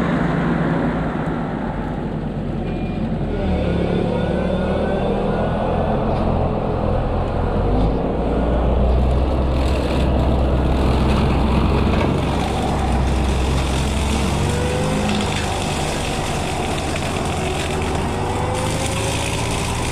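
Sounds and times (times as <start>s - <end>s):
excavator engine running: 0.0s - 19.9s.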